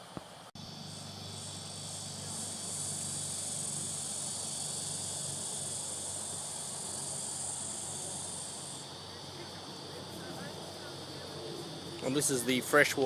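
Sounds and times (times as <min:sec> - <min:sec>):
faint low hum: 0:00.0 - 0:13.0
high-pitched insect chorus: 0:00.0 - 0:13.0.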